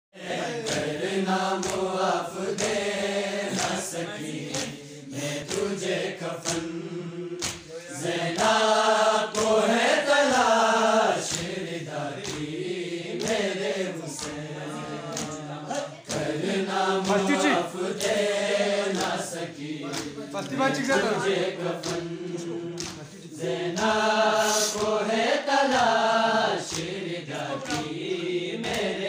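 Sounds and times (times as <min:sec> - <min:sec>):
group of men chanting: 0:00.2 - 0:29.0.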